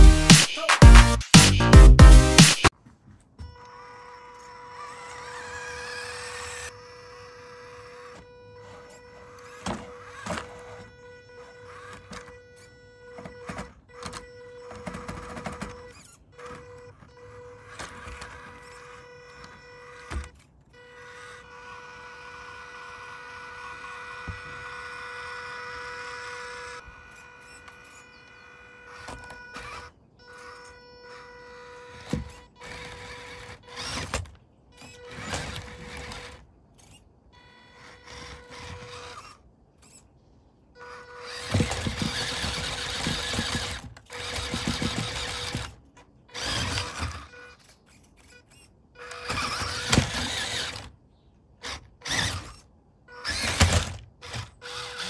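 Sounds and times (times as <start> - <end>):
toy car motors whining: 3.4 - 55.0.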